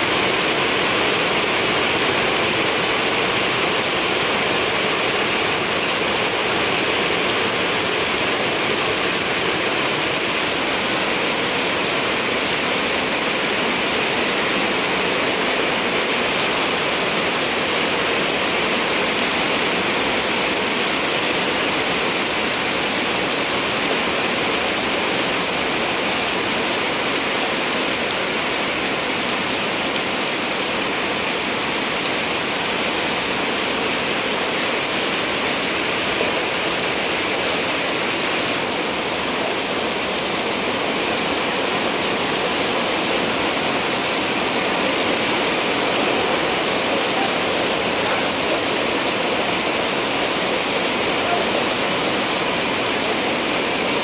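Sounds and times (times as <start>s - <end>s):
rain on wet pavement: 0.0s - 54.0s.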